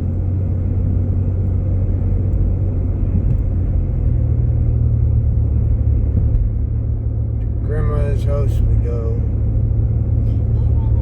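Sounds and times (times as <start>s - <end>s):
car engine rumble: 0.0s - 11.0s
tyres on snowy road: 0.0s - 11.0s.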